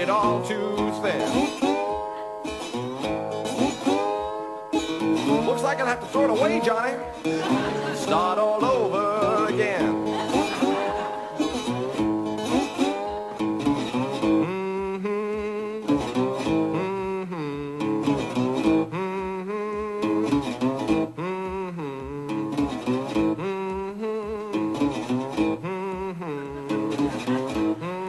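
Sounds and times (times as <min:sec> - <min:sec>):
man humming: 0:00.0 - 0:28.0
resonator guitar playing: 0:00.0 - 0:28.0.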